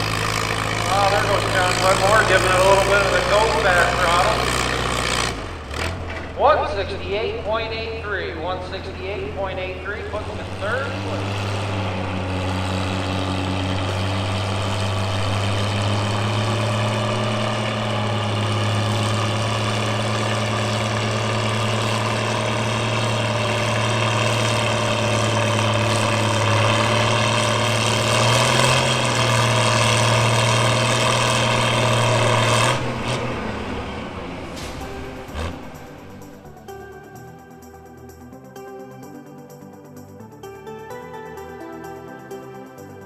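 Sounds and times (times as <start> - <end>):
tractor engine running under load: 0.0 - 43.0.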